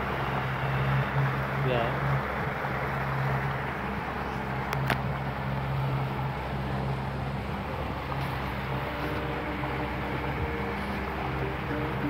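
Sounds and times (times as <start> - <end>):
boat motor running: 0.0 - 12.0
water rushing: 0.0 - 12.0.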